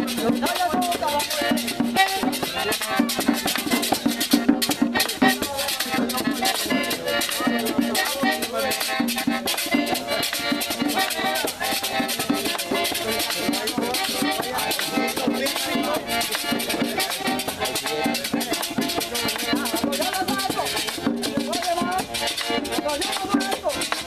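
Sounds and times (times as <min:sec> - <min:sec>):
button accordion: 0:00.0 - 0:24.0
drum struck with stick and hand: 0:00.0 - 0:24.0.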